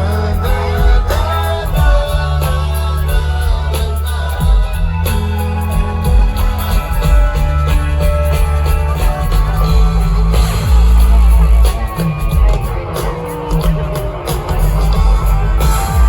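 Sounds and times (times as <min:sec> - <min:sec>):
heavy bass line: 0:00.0 - 0:16.0
live rock band playing: 0:00.0 - 0:16.0.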